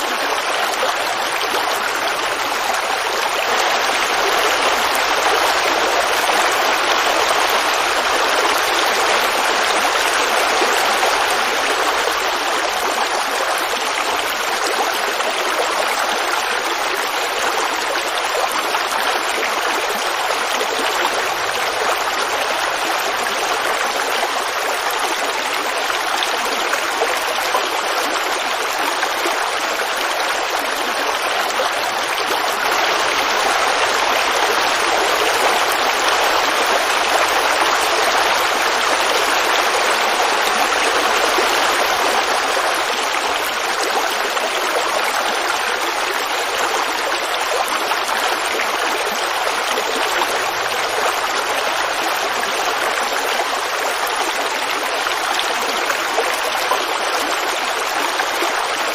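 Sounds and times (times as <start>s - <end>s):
creek babbling over rocks: 0.0s - 58.9s.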